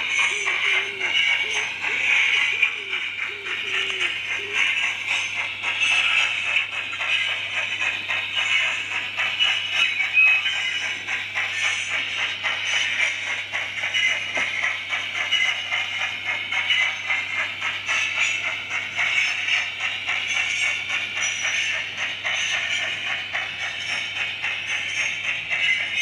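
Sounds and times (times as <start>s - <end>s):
model train rattling on track: 0.0s - 26.0s.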